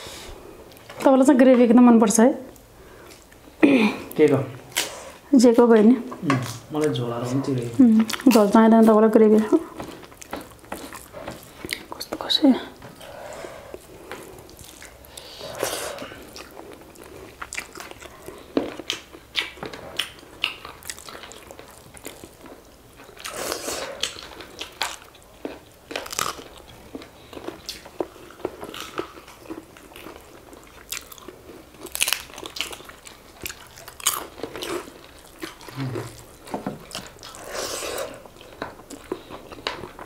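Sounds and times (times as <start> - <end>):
people chewing food: 0.0 - 40.0.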